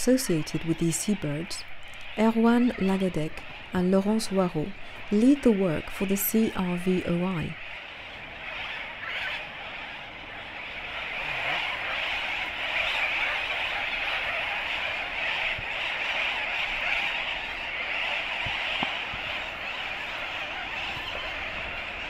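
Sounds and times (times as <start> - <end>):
seabird colony calling: 0.0 - 22.0.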